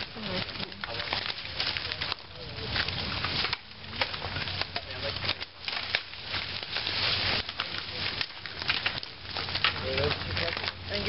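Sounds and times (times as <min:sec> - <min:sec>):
dry leaves rustling: 0:00.0 - 0:11.0
twigs snapping: 0:00.0 - 0:11.0.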